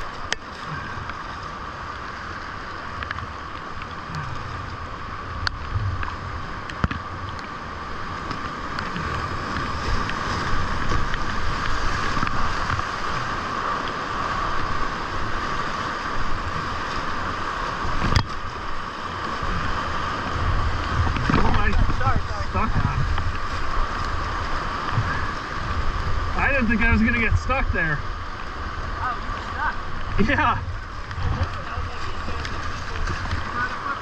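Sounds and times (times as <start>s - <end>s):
whitewater rapids rushing: 0.0s - 34.0s.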